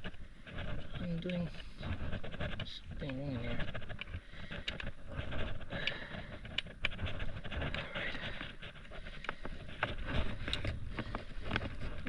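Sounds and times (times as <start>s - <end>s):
hands and tools clicking and scraping: 0.0s - 12.0s.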